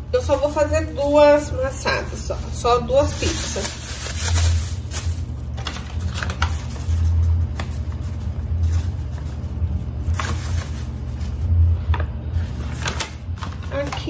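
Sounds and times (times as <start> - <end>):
steady low hum: 0.0 - 14.0
plastic and paper rustling: 0.2 - 14.0.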